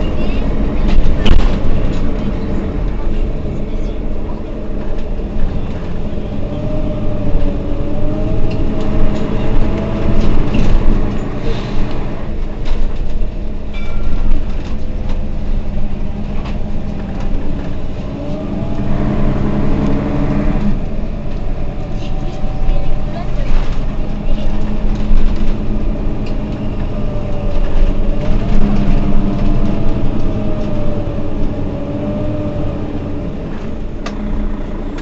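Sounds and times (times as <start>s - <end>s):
bus diesel drone: 0.0s - 35.0s.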